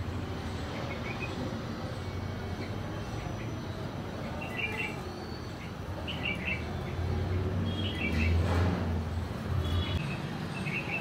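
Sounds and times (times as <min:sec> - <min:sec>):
bird chirping: 0:00.3 - 0:08.5, 0:09.1 - 0:11.0.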